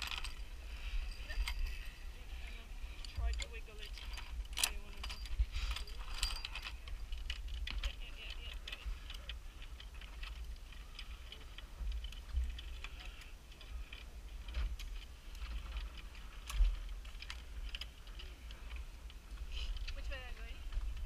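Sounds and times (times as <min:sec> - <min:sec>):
metal clicks of climbing gear: 0:00.0 - 0:21.0.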